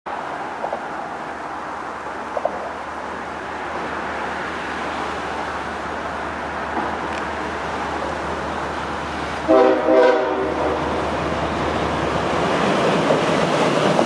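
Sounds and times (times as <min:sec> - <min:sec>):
distant freight train rumble: 0:00.1 - 0:14.0.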